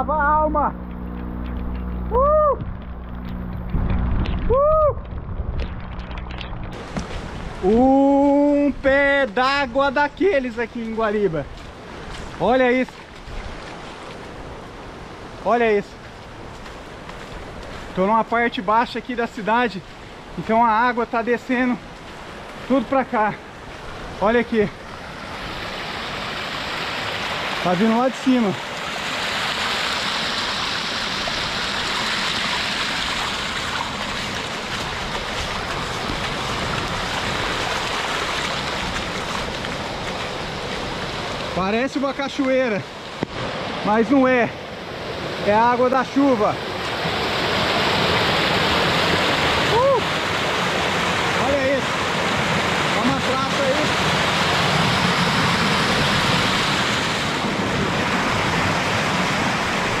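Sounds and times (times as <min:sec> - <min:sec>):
rainwater rushing: 0:01.4 - 1:00.0.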